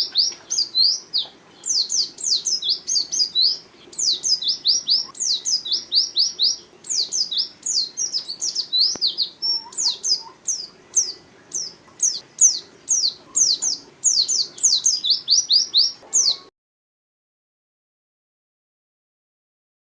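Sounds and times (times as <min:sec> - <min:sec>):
bird singing high thin notes: 0:00.0 - 0:16.5.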